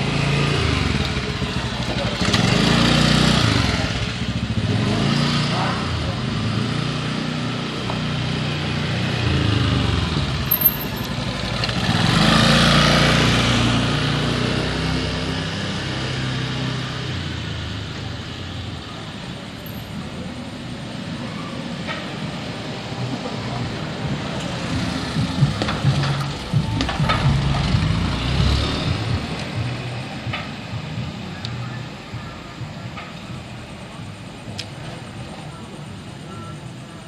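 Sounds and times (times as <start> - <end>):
motorcycles and cars passing: 0.0 - 37.0.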